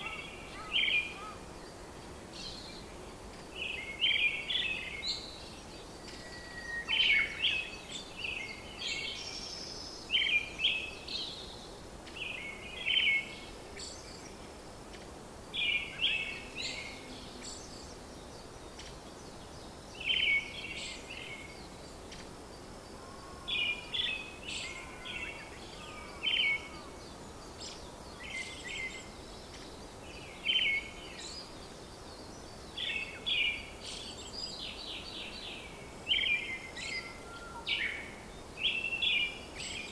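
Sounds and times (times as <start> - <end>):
birds chirping: 0.0 - 39.9
steady background hiss: 0.0 - 39.9.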